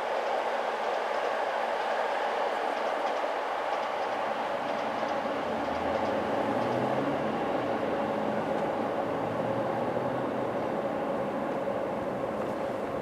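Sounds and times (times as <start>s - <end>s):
electric train running past: 0.0s - 13.0s.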